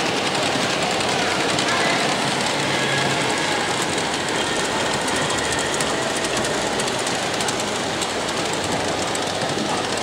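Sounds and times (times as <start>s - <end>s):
model trains rolling rumble: 0.0s - 10.0s
small wheels clicking over rail joints: 0.0s - 10.0s.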